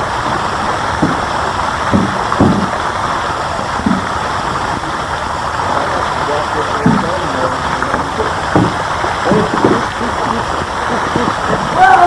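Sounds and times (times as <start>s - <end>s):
fountain splashing water: 0.0s - 12.0s
low bumps: 0.0s - 12.0s.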